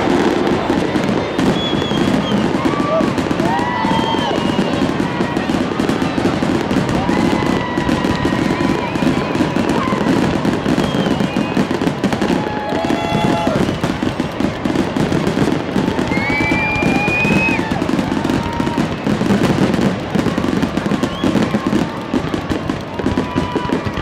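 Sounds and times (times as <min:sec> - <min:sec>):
fireworks bursts and crackles: 0:00.0 - 0:24.0
fireworks whistling: 0:00.0 - 0:24.0.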